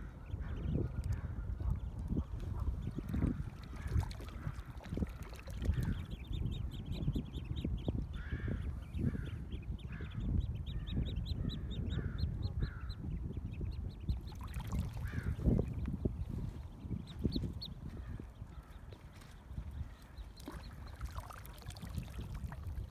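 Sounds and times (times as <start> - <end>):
ducklings peeping: 0.0 - 22.9.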